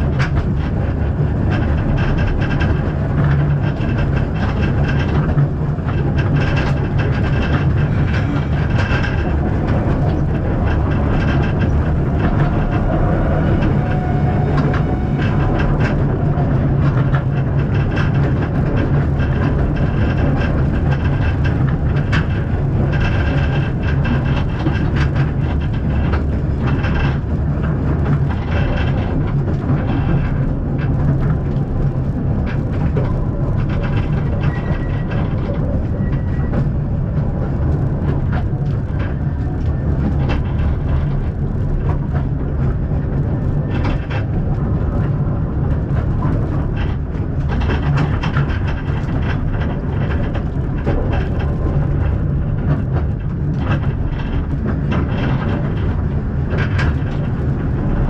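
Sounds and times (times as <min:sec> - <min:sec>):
steam train low rumble: 0:00.0 - 0:58.0
wheels clicking and clattering: 0:00.0 - 0:58.0.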